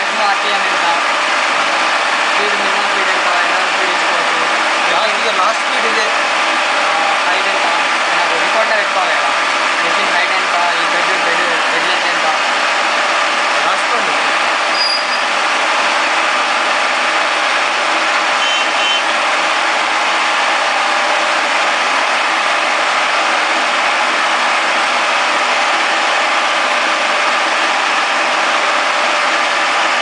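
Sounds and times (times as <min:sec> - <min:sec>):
milling machine whirring: 0:00.0 - 0:30.0.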